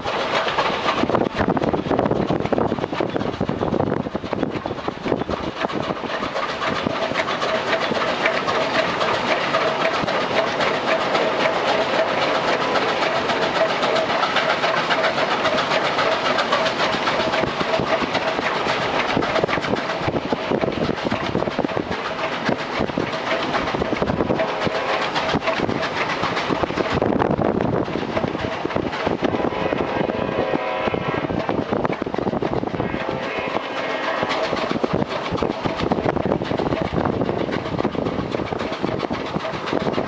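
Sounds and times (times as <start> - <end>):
steam locomotive working hard: 0.0 - 40.0.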